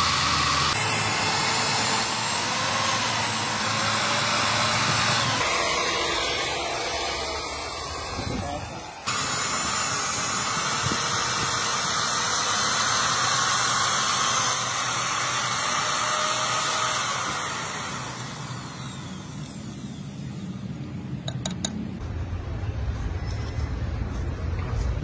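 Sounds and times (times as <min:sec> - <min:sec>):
drill boring through steel: 0:00.0 - 0:20.7.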